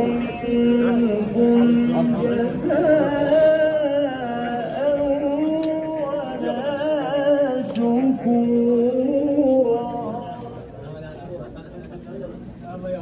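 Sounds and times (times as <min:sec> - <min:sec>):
man chanting religious recitation: 0:00.0 - 0:11.2.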